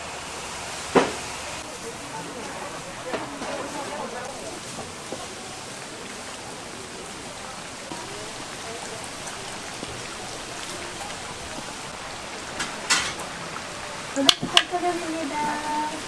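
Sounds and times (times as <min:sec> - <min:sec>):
doughnuts sizzling in hot oil: 0:00.0 - 0:16.0.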